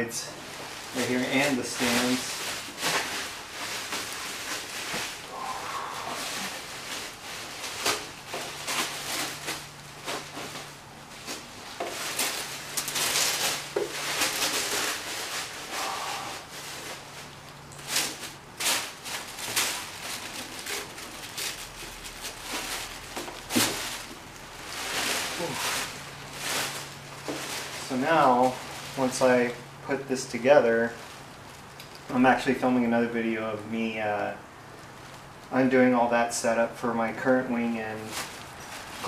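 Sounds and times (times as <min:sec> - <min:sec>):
plastic wrap rustling and crinkling: 0:00.0 - 0:39.0.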